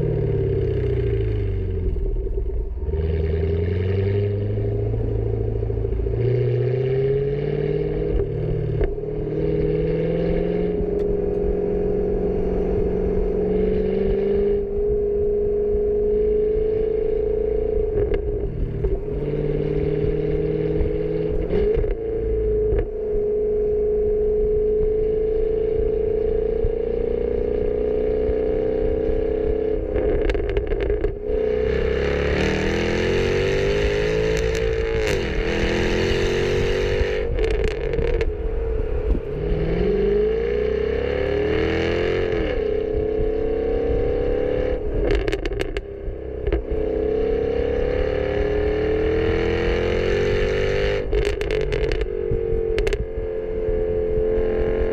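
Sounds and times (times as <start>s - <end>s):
car exhaust idling and revving: 0.0s - 54.9s.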